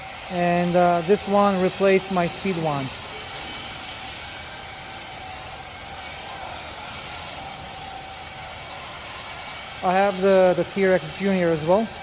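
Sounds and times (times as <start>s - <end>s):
vacuum suction and water spray hiss: 0.0s - 12.0s.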